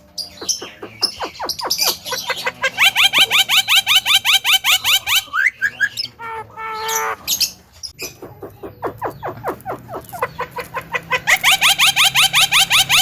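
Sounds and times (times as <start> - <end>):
bird calling loudly: 0.0 - 13.0.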